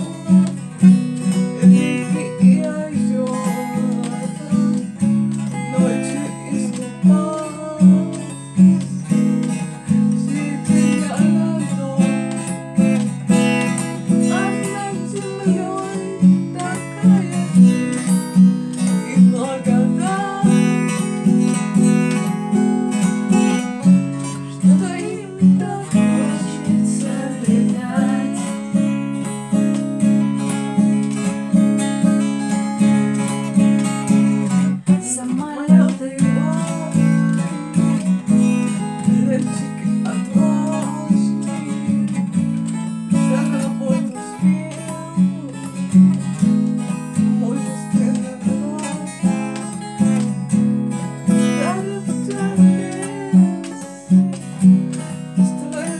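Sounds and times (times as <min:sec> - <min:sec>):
acoustic guitar strumming: 0:00.0 - 0:55.9.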